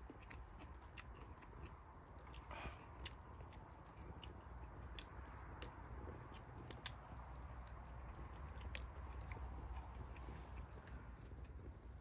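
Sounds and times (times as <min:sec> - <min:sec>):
campfire crackling and popping: 0:00.0 - 0:12.0
low steady rumble: 0:00.0 - 0:12.0
person chewing food: 0:00.0 - 0:12.0.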